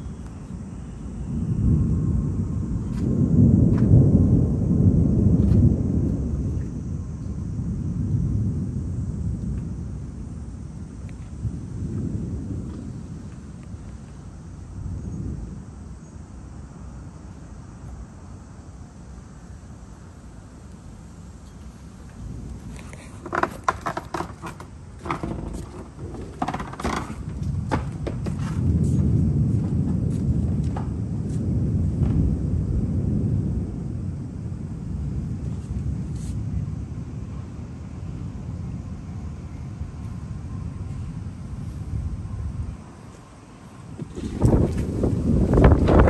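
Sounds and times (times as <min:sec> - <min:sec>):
rolling thunder rumble: 0:00.0 - 0:46.0.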